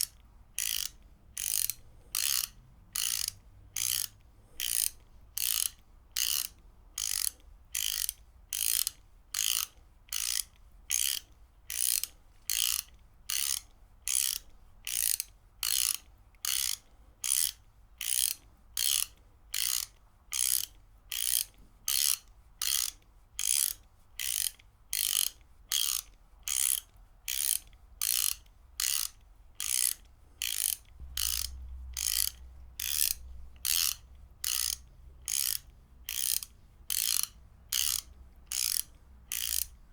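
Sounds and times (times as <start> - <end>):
ratchet wrench clicking: 0.0 - 39.8.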